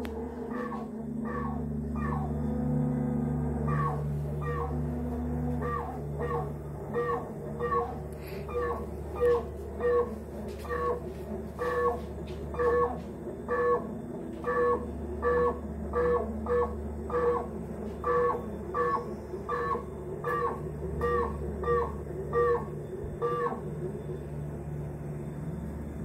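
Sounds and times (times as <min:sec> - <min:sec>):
refrigerator low hum: 0:00.0 - 0:26.0
refrigerator squeaky chirp: 0:00.3 - 0:25.6.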